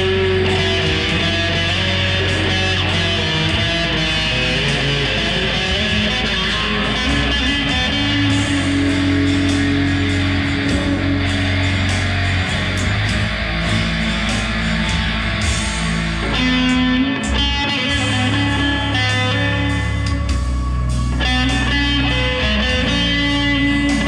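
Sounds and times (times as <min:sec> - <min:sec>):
electric guitar through amplifier: 0:00.0 - 0:24.0
steady low bass: 0:00.0 - 0:24.0.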